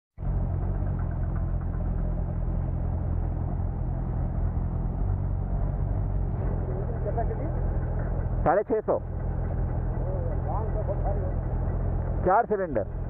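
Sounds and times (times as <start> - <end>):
motorcycle engine running steadily: 0.2 - 13.0.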